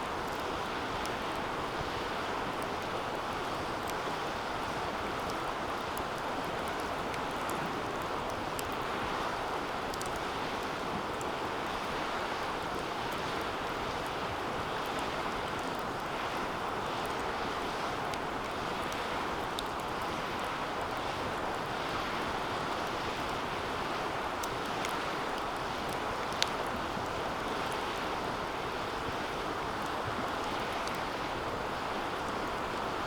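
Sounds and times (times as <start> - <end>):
faint fire crackles: 0.0 - 33.0.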